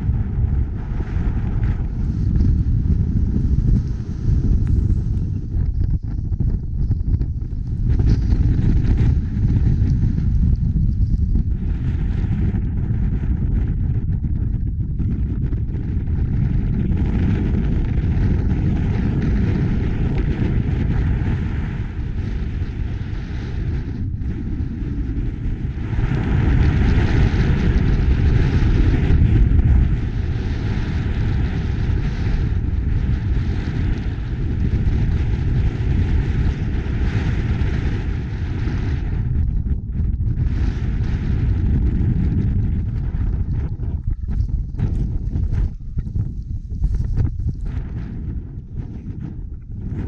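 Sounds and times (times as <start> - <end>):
strong wind buffeting microphone: 0.0 - 50.0.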